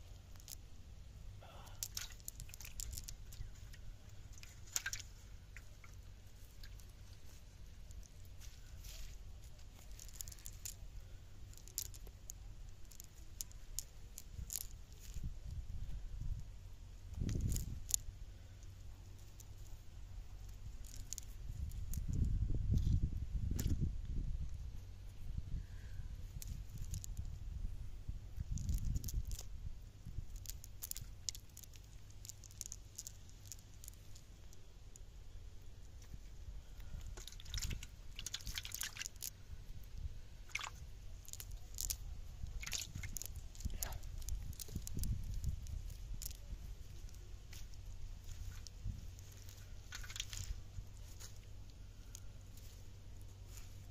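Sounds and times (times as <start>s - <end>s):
fishing net rustling and crackling: 0.0s - 23.9s, 26.2s - 53.9s
low steady rumble: 0.0s - 53.9s.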